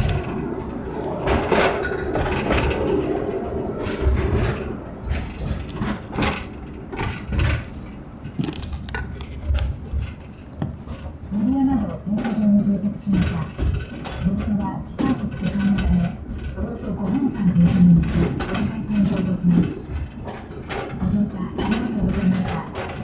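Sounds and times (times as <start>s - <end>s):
train wheels knocking on rails: 0.0s - 23.0s.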